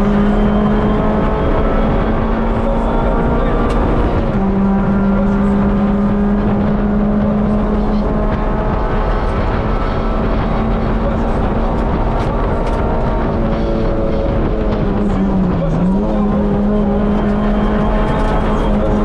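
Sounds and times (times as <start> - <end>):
rally car engine at high revs: 0.0 - 19.0
road and tyre noise: 0.0 - 19.0.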